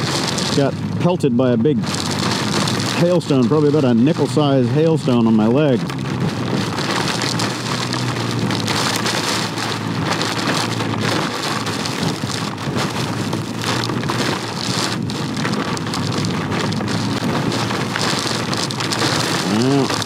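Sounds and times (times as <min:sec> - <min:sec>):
heavy rain with hail: 0:00.0 - 0:20.0.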